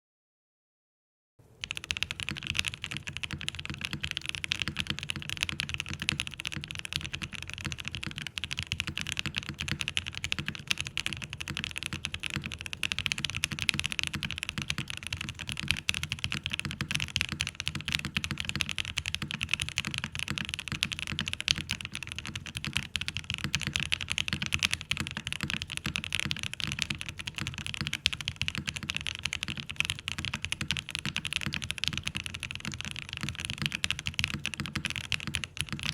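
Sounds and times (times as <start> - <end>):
fast mechanical keyboard typing: 1.6 - 35.9.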